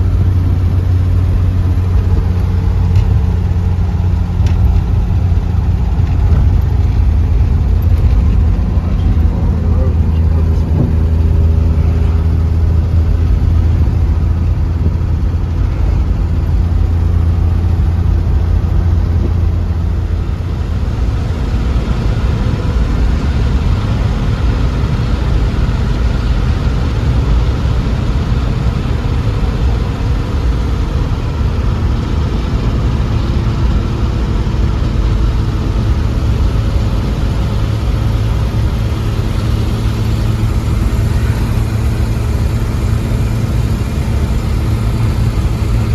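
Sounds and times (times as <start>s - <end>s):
car engine running: 0.0s - 45.9s.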